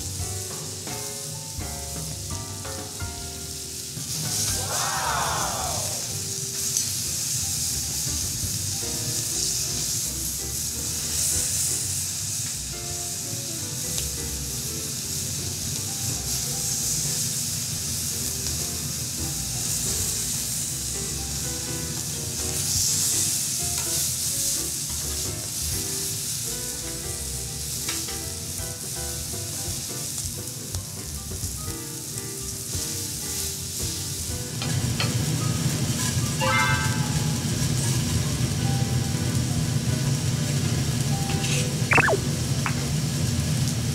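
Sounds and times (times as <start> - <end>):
steak and vegetables sizzling: 0.0 - 43.9.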